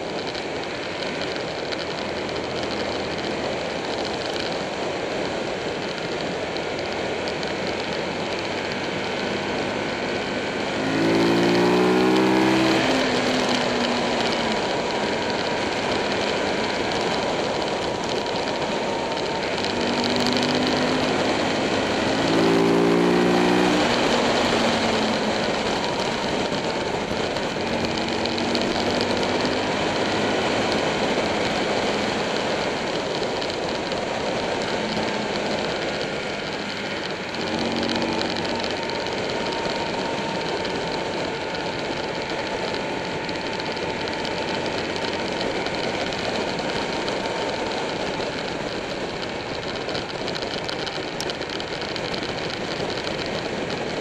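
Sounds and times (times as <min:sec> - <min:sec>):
motorcycle engine: 0:00.0 - 0:54.0
wind noise: 0:00.0 - 0:54.0.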